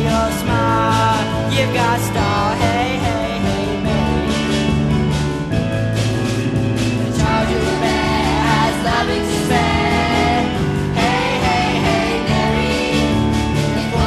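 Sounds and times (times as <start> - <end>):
person singing: 0.0 - 4.8, 7.2 - 14.0
instrumental accompaniment: 0.0 - 14.0.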